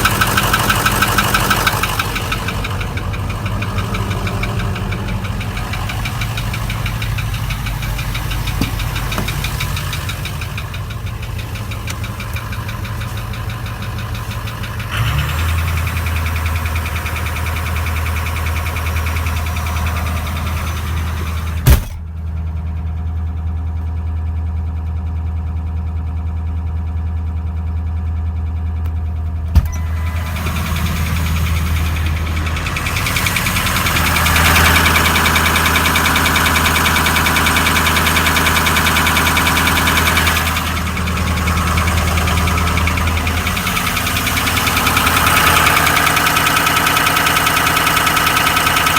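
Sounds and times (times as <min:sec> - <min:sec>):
diesel engine idling with knock: 0:00.0 - 0:48.9.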